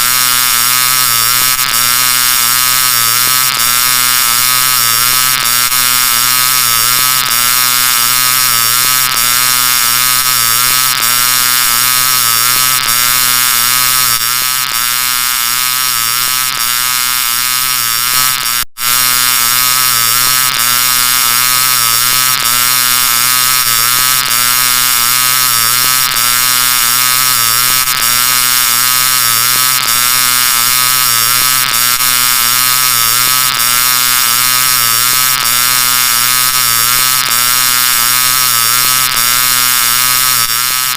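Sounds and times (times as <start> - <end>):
distorted buzzing electronic sound: 0.0 - 40.9.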